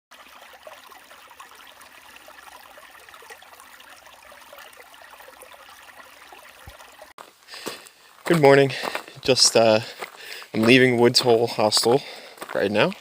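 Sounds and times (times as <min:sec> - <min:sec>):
water trickling: 0:00.1 - 0:13.0.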